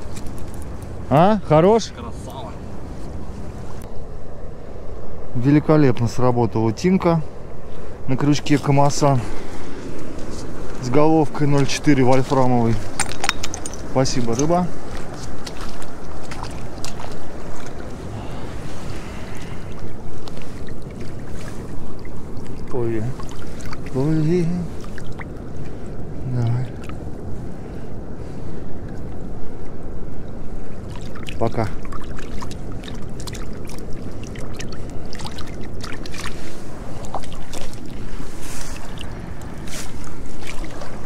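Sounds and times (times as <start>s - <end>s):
water splashing and sloshing: 0.0s - 3.9s, 7.5s - 41.0s
rushing water: 0.0s - 41.0s
wind rumbling on microphone: 0.0s - 41.0s.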